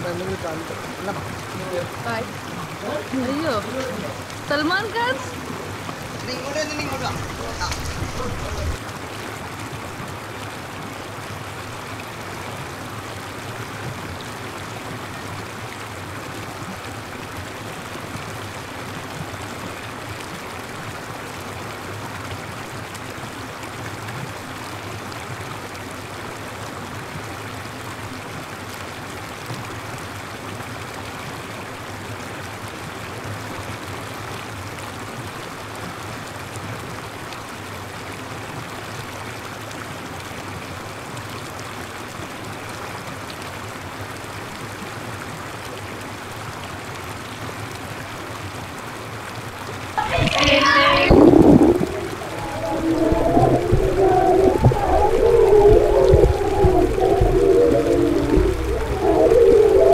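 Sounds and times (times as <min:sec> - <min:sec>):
shower water falling on people: 0:00.0 - 0:59.9.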